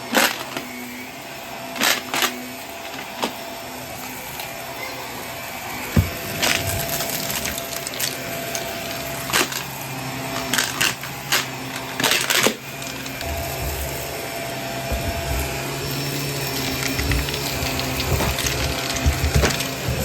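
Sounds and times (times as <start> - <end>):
vacuum cleaner on carpet: 0.0 - 20.0.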